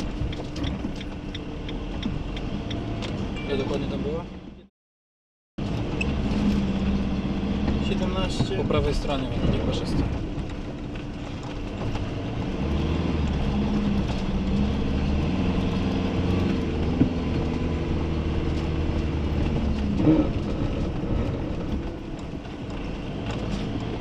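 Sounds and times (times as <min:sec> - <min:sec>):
engine and tyre noise: 0:00.0 - 0:04.7, 0:05.6 - 0:24.0.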